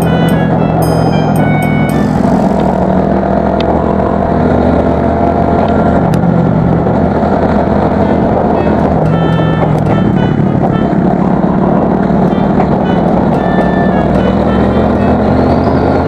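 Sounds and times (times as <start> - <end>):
motorcycle exhaust note: 0.0 - 16.0
road noise: 0.0 - 16.0.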